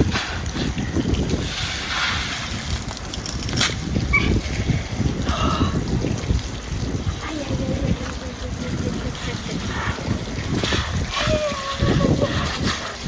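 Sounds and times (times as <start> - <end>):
water splashing and running: 0.0 - 13.0
wind rumbling on microphone: 0.0 - 13.0.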